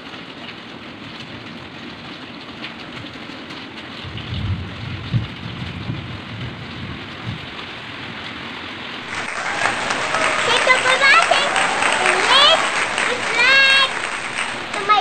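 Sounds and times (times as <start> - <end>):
steady rain hiss: 0.1 - 15.0.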